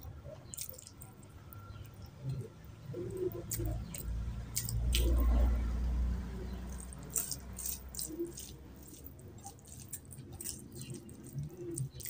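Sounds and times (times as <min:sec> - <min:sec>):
fingers squelching rice: 0:00.0 - 0:05.8, 0:06.6 - 0:12.0.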